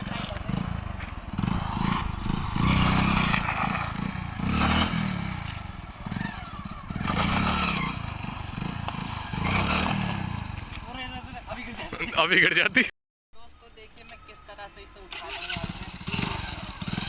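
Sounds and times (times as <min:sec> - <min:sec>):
motorcycle engine revving: 0:00.0 - 0:11.8, 0:15.1 - 0:17.0.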